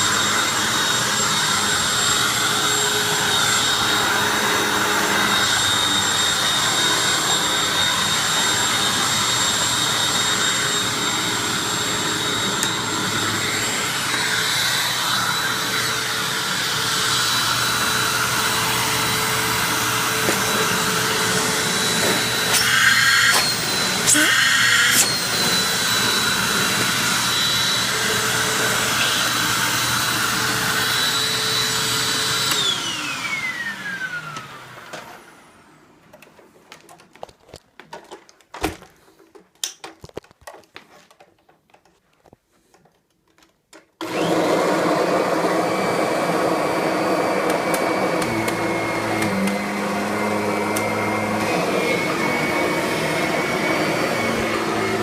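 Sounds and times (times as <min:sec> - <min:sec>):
vacuum cleaner high whine: 0:00.0 - 0:36.2, 0:44.0 - 0:55.0
vacuum cleaner lower whine: 0:00.0 - 0:36.6, 0:44.0 - 0:55.0.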